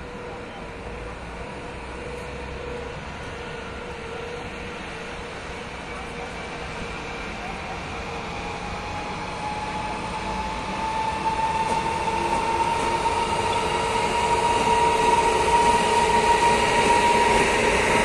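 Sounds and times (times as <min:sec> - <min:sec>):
electric locomotive whine: 0:00.0 - 0:18.0
wheels rumbling on rails: 0:00.0 - 0:18.0.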